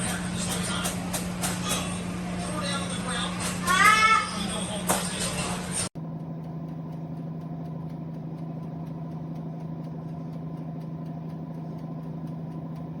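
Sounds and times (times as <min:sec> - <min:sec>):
air fryer oven fan humming: 0:00.0 - 0:13.0.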